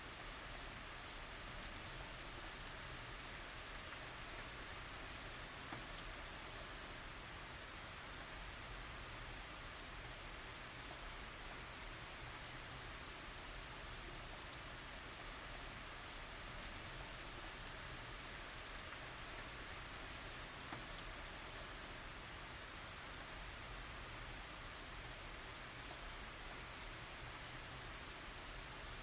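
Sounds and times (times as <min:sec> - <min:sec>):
steady rain hiss: 0:00.0 - 0:29.0
sharp raindrop ticks: 0:00.1 - 0:07.1, 0:08.0 - 0:22.1, 0:23.0 - 0:29.0.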